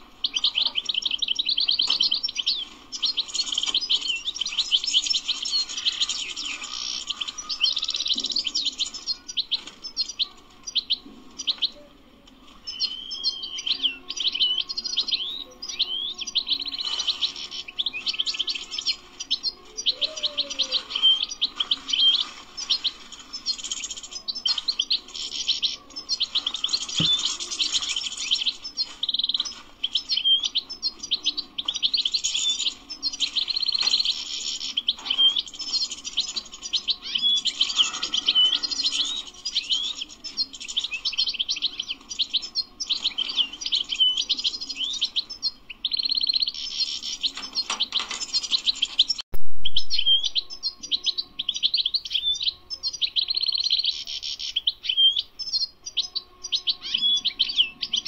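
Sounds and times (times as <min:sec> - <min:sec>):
goldfinch singing: 0:00.0 - 0:11.8, 0:12.5 - 0:58.0.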